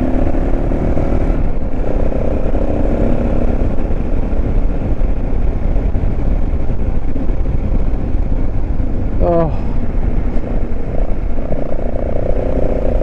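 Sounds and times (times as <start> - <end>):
motorcycle engine running: 0.0 - 13.0
wind rush on microphone: 0.0 - 13.0.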